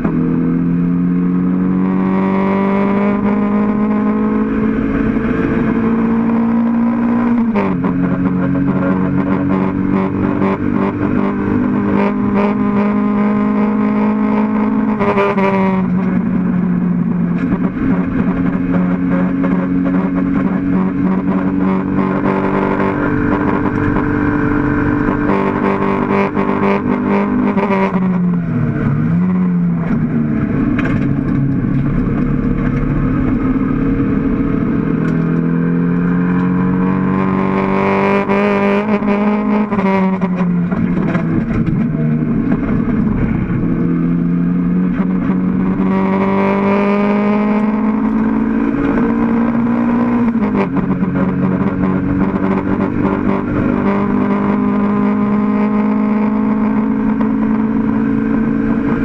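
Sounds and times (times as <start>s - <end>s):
race car engine running hard: 1.0s - 59.0s.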